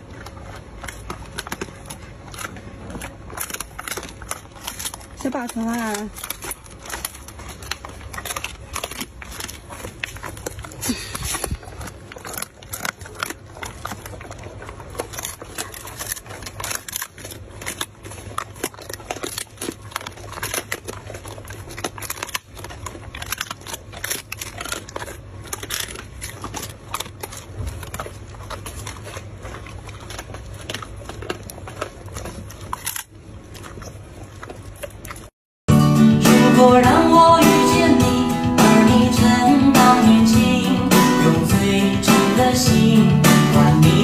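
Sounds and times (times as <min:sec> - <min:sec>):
dog chewing crunchy chew: 0:00.0 - 0:44.0.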